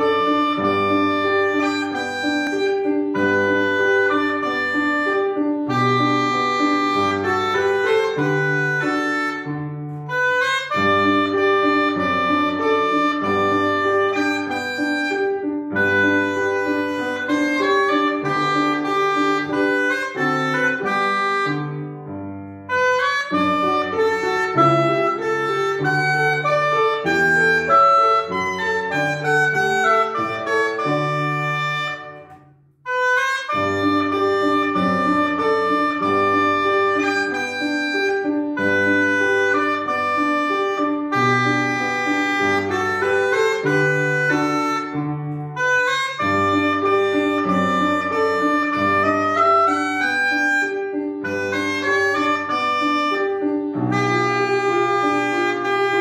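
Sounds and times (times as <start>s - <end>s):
oboe melody: 0.0s - 56.0s
upright piano accompaniment: 0.0s - 56.0s.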